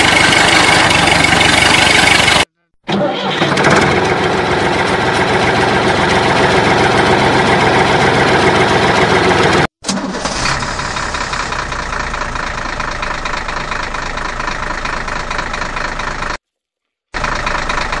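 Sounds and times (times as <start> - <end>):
engine running with fast pulse: 0.0 - 16.4, 17.2 - 18.0.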